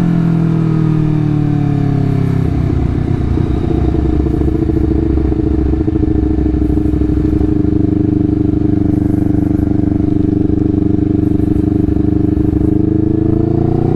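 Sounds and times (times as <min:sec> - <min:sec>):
motorcycle exhaust at low rpm: 0:00.0 - 0:13.9.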